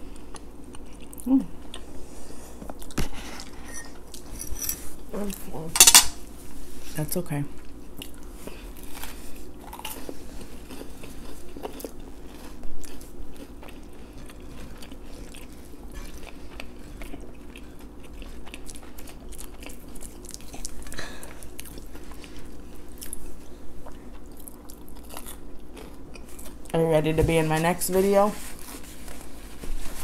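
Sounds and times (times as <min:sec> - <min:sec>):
person chewing crusty bread: 0:00.0 - 0:05.0, 0:07.6 - 0:26.8.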